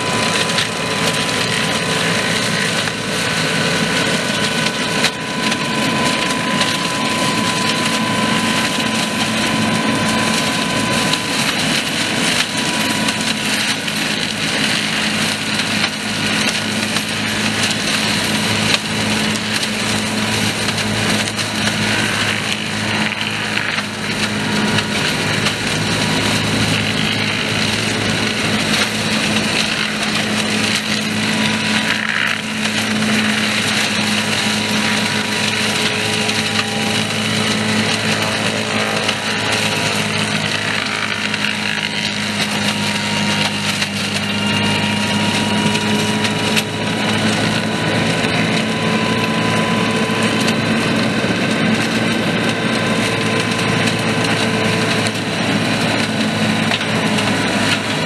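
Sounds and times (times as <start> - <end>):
mulcher rotor whirring through brush: 0.0 - 58.0
tractor engine humming under load: 0.0 - 58.0.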